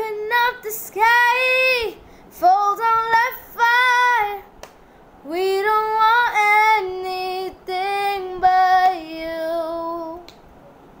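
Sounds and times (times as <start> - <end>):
person singing unaccompanied: 0.0 - 4.5, 5.2 - 10.3.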